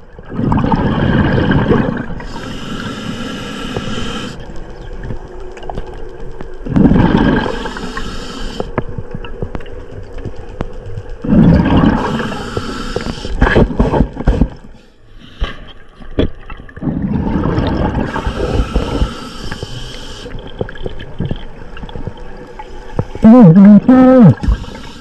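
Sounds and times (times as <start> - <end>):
underwater water swishing: 0.0 - 25.0.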